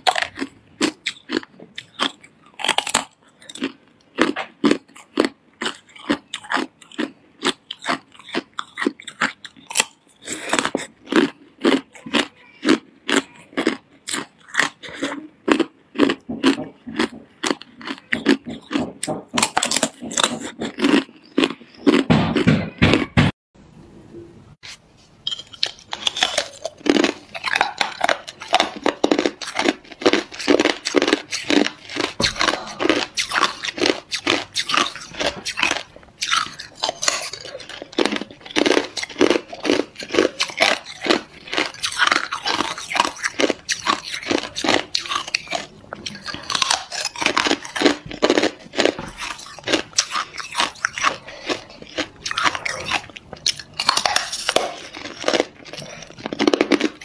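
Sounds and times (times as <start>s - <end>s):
ice being chewed: 0.0s - 22.1s, 25.2s - 57.0s.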